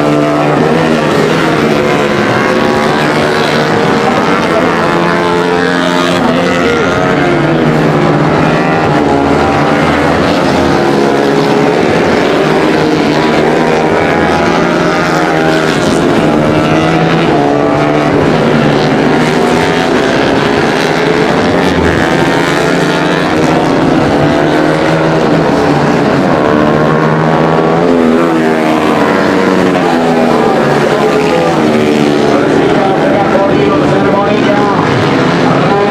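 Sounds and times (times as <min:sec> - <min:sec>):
motorbikes racing past revving: 0:00.0 - 0:35.9.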